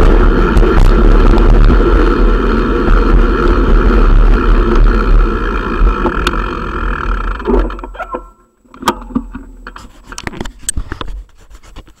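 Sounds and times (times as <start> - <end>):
bicycle rolling: 0.0 - 12.0.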